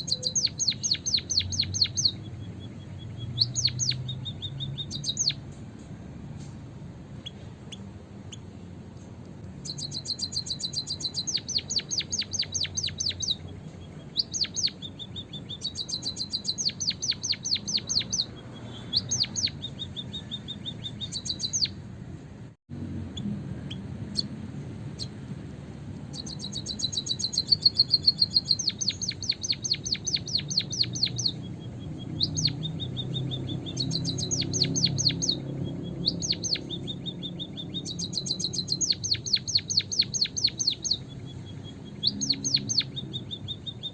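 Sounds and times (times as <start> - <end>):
bird rapid high chirps: 0.0 - 5.9, 7.1 - 8.6, 9.5 - 21.9, 23.1 - 25.2, 26.1 - 43.9.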